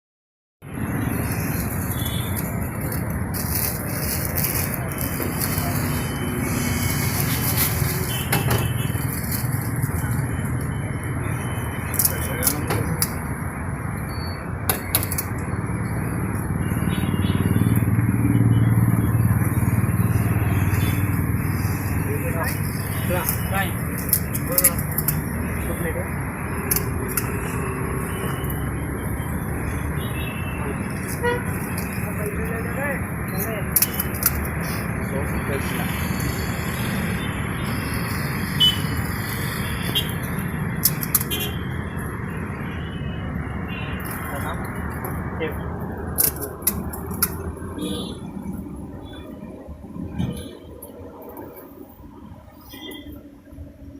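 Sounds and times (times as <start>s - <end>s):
roadside traffic rumble: 0.6s - 53.9s
street noise: 0.6s - 53.9s.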